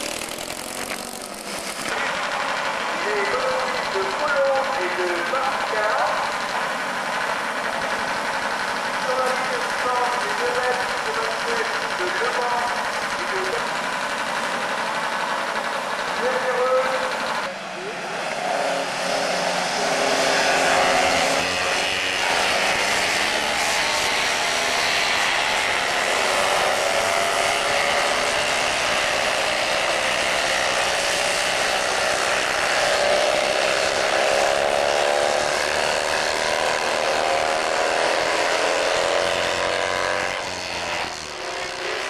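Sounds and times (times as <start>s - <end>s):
racing car engines at high revs: 0.0s - 42.0s.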